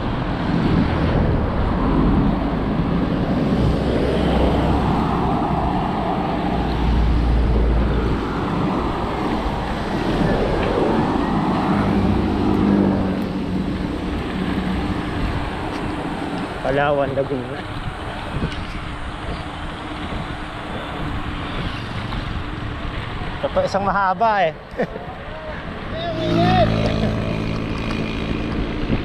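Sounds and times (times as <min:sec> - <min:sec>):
motor traffic passing: 0:00.0 - 0:29.0
wind rushing over microphone: 0:00.0 - 0:29.0.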